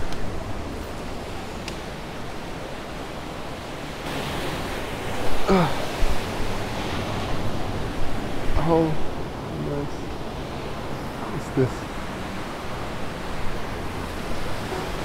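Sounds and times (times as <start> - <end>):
ocean surf: 0.0 - 15.0
wind: 0.0 - 15.0.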